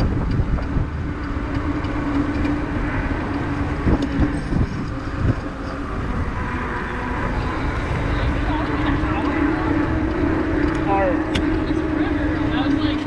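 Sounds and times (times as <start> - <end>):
electric motor hum: 0.0 - 13.0
tyres on wet pavement: 0.0 - 13.0
wind rumbling on microphone: 0.0 - 13.0.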